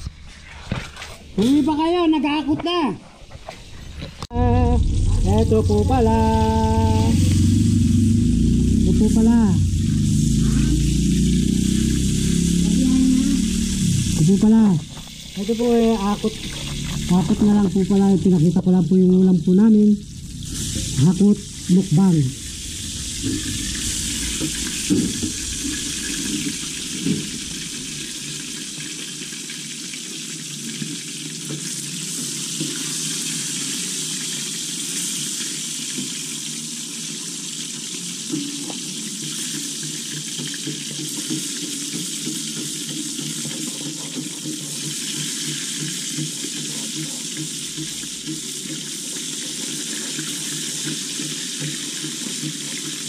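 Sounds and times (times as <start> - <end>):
fish sizzling in oil: 4.5 - 53.0.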